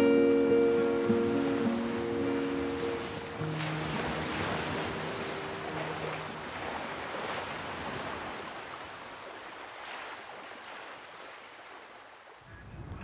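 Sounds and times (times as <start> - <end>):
sea waves rushing: 0.0 - 12.4.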